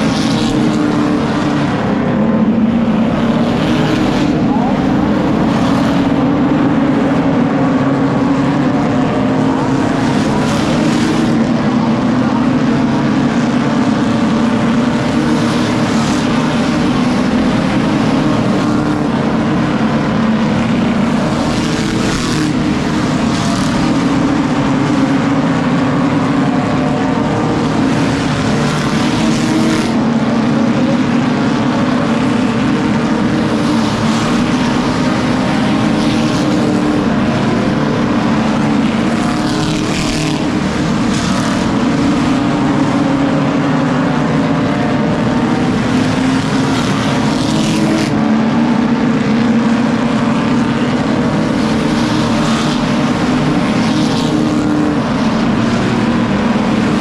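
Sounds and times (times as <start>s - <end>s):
race car engines roaring: 0.0s - 57.0s.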